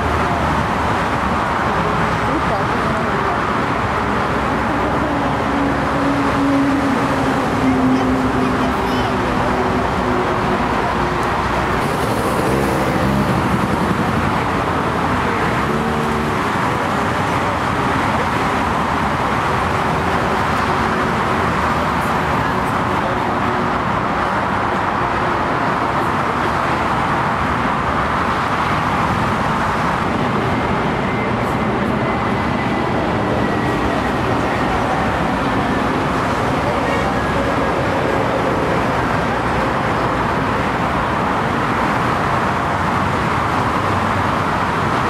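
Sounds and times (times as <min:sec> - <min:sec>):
jet airliner engines rushing: 0:00.0 - 0:45.0.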